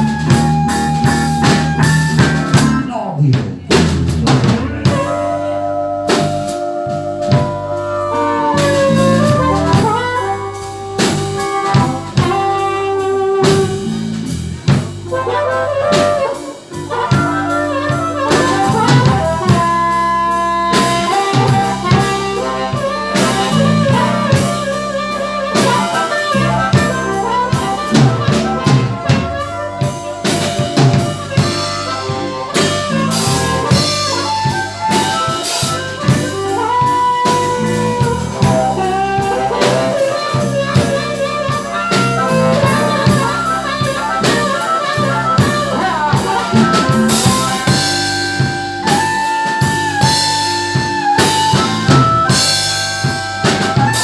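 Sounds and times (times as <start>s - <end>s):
lead melody bending notes: 0.0s - 3.0s, 4.2s - 54.0s
blues band playing live: 0.0s - 54.0s.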